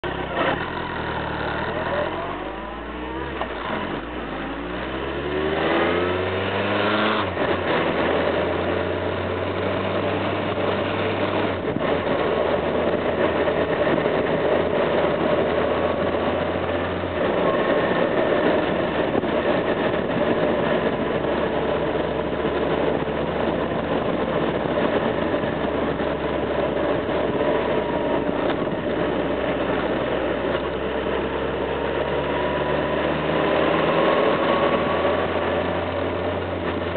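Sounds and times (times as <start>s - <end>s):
motorcycle engine accelerating: 0.0s - 36.9s
wind and road noise: 0.0s - 36.9s.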